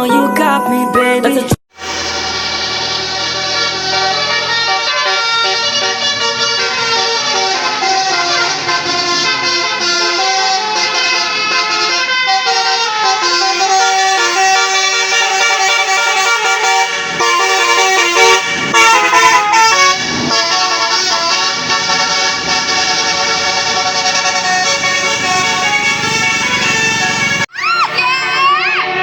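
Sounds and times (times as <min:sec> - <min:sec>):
multi-tone bus horn tune: 0:00.0 - 0:27.5, 0:28.2 - 0:29.0.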